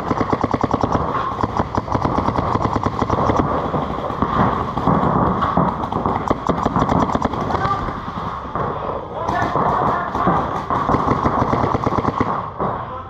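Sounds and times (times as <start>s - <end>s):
paintball markers firing rapidly: 0.0s - 12.8s.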